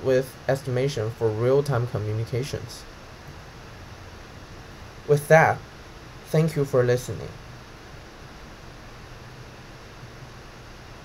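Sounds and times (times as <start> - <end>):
background hiss: 0.0 - 11.0
faint low hum: 0.0 - 11.0.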